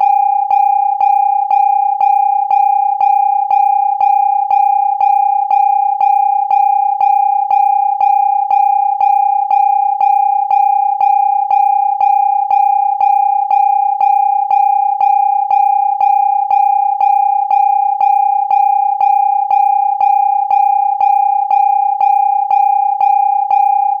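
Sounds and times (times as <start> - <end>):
electronic alarm pulsing tone: 0.0 - 24.0.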